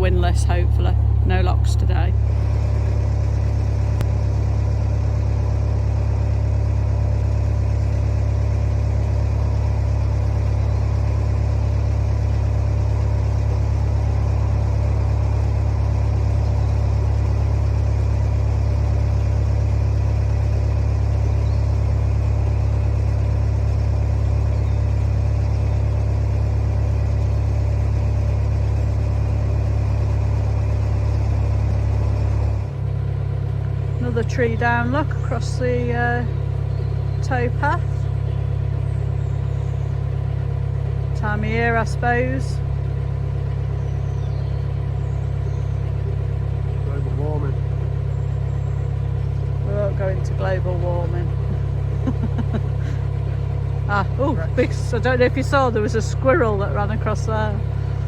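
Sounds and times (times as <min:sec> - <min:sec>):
boat diesel engine droning: 0:00.0 - 0:58.0.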